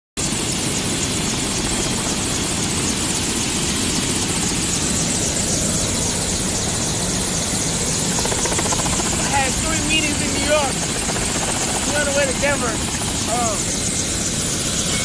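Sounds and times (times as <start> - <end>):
helicopter rotor and engine: 0.2 - 15.0.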